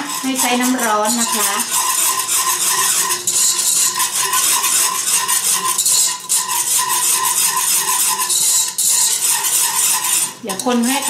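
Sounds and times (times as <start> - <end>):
whisk scraping a saucepan: 0.0 - 11.0.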